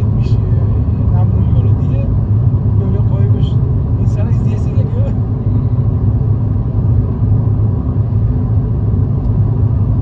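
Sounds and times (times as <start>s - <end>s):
car driving rumble: 0.0s - 10.0s.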